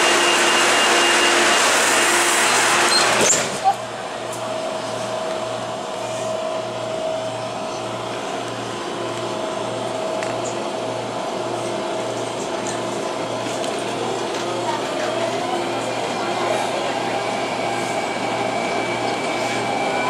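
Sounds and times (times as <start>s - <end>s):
train motor whine: 0.0s - 20.0s
train running noise: 0.0s - 20.0s.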